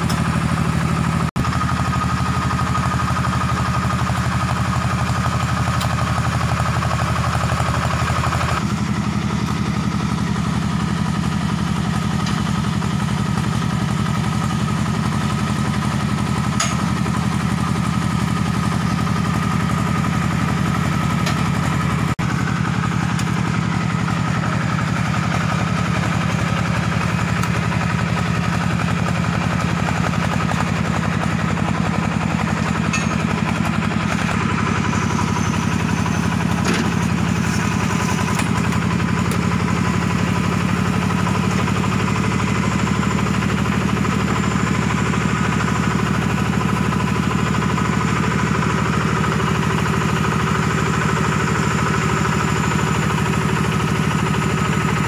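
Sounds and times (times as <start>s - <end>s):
mini dumper engine running: 0.0s - 55.0s.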